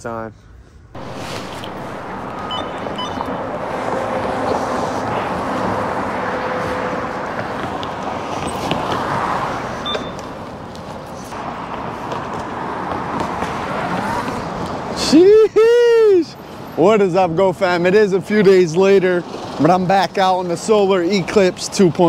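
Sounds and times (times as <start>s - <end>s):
passing cars and buses: 0.9s - 22.0s.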